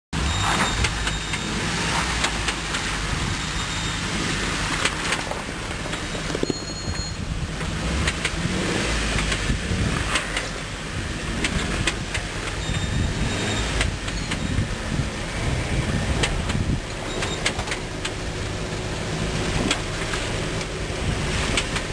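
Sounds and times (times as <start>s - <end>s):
engine low rumble: 0.1s - 21.9s.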